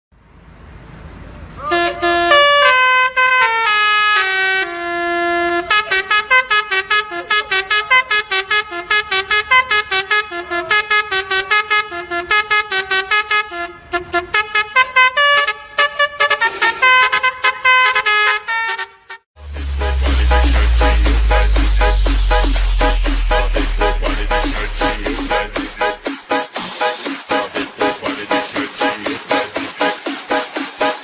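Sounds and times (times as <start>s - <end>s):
bus air horn melody: 1.6s - 31.0s.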